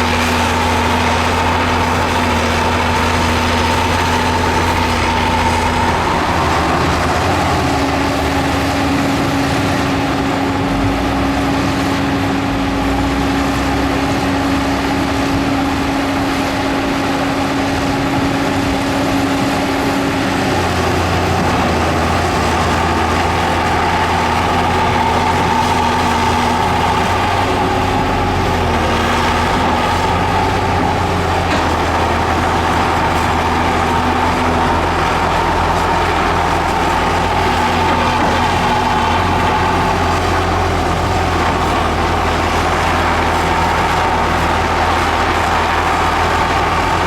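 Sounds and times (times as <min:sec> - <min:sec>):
heavy diesel engines running: 0:00.0 - 0:47.0
high steady whine: 0:00.0 - 0:47.0.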